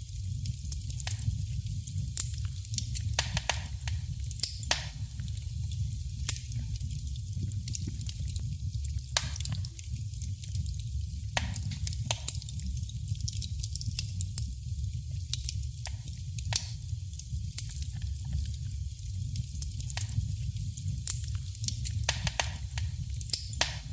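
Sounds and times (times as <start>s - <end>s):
wood fire crackling: 0.0s - 23.9s
sharp fire pops: 0.2s - 23.9s.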